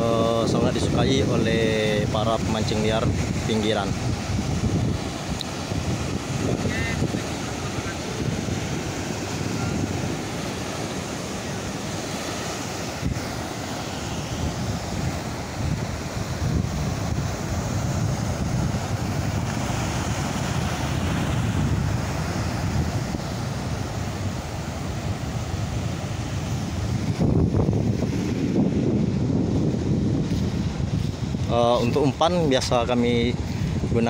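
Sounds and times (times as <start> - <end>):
sea surf breaking on rocks: 0.0 - 34.0
wind on microphone: 0.0 - 34.0.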